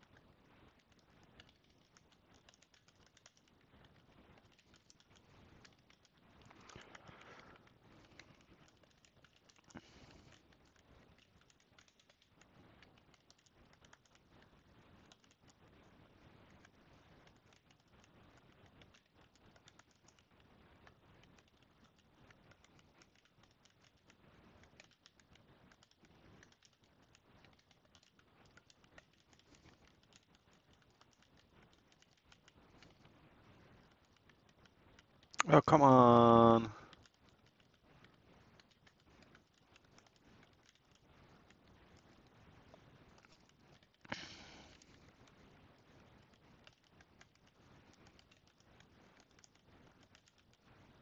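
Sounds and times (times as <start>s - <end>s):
keyboard typing: 0.0s - 51.0s.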